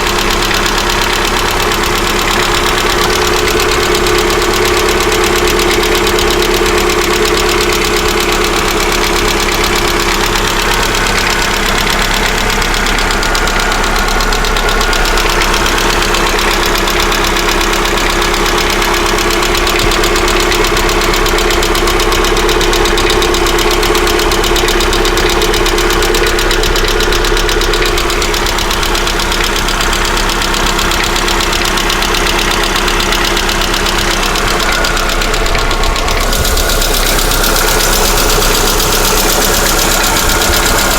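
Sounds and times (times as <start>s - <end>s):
car engine idling: 0.0s - 40.9s
valve lifter ticking: 0.0s - 40.9s.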